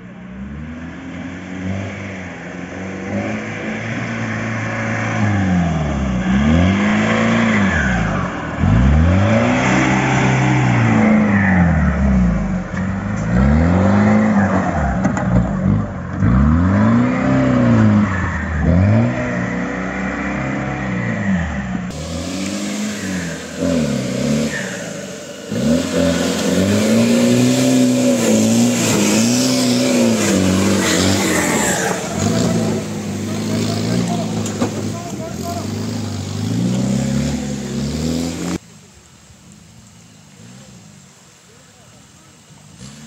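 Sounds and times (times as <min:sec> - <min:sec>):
jeep engine revving: 0:00.0 - 0:38.6, 0:42.4 - 0:43.0.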